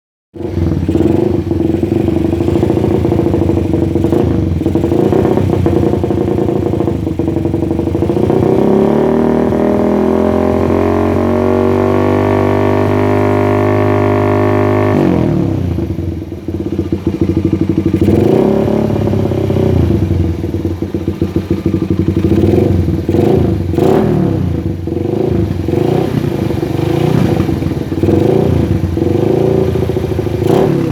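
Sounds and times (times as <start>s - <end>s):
motorcycle engine revving: 0.4s - 30.9s.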